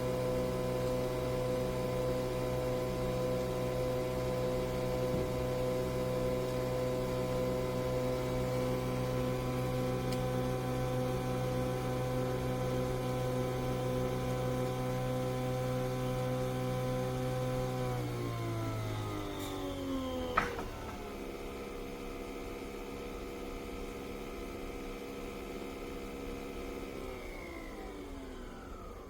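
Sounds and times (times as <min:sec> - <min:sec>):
coffee machine humming: 0:00.0 - 0:29.0.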